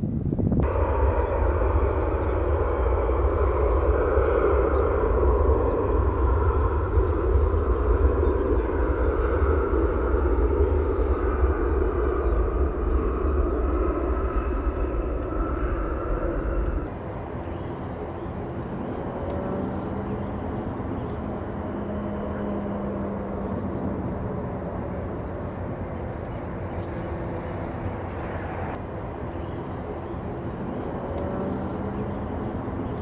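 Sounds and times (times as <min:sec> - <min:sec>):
faint hum: 0:00.0 - 0:33.0
heavier low rumble: 0:00.0 - 0:33.0
steady low rumble: 0:00.0 - 0:33.0.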